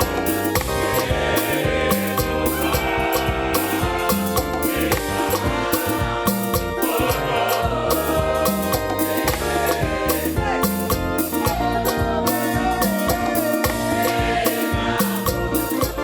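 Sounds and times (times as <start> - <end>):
gospel choir singing with band: 0.0 - 16.0.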